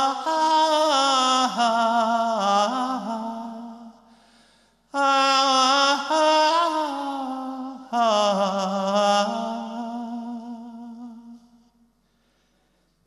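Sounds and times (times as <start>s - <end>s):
man singing a cappella: 0.0s - 4.2s, 4.9s - 11.8s.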